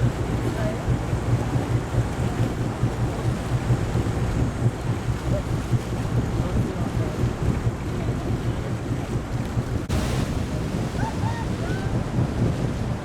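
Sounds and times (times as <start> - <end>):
water rushing: 0.0 - 13.0
wind buffeting microphone: 0.0 - 13.0.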